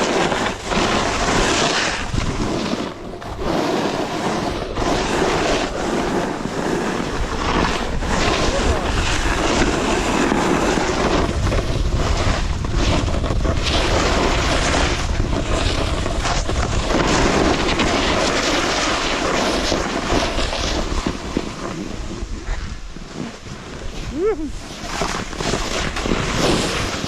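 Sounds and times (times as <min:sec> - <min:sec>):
ski edges scraping hard snow: 0:00.0 - 0:27.0
wind rushing on microphone: 0:00.0 - 0:27.0.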